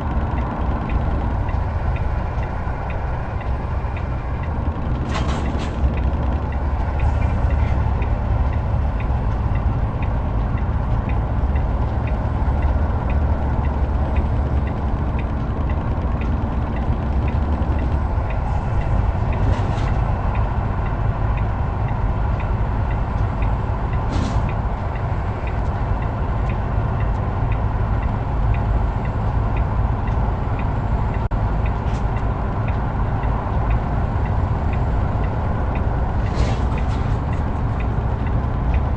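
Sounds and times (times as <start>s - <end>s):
heavy truck engine rumble: 0.0s - 38.9s
light regular ticking: 0.0s - 38.9s.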